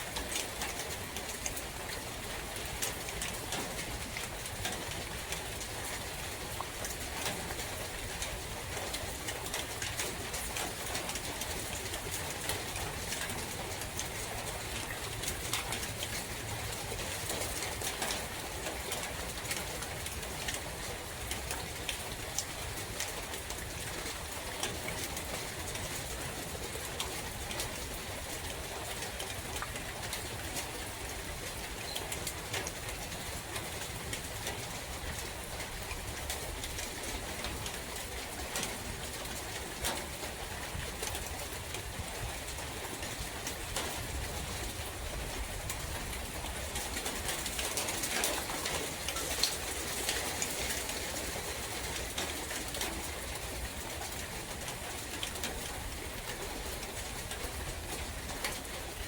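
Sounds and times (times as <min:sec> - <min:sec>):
rain falling: 0:00.0 - 0:59.0
water drips ticking: 0:00.0 - 0:59.0.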